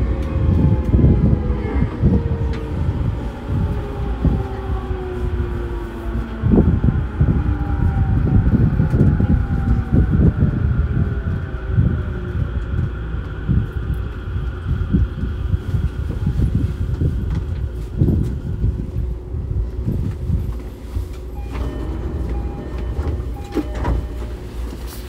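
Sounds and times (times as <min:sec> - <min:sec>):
wheel-on-rail rumble: 0:00.0 - 0:25.0.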